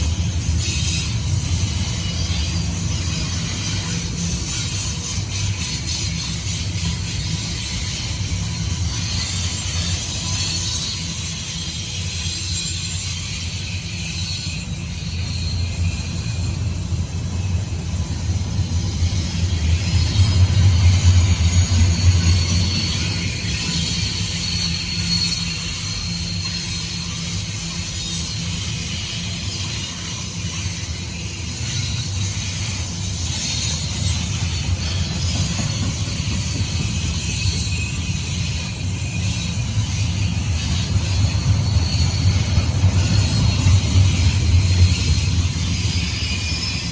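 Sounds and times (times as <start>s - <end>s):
freight train wheels rumbling: 0.0s - 46.9s
high hiss of train: 0.0s - 46.9s.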